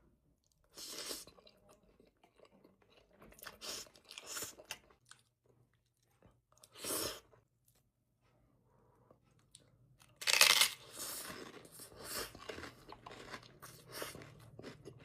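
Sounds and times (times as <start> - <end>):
chewing and crunching food: 0.3 - 8.0, 8.9 - 15.0.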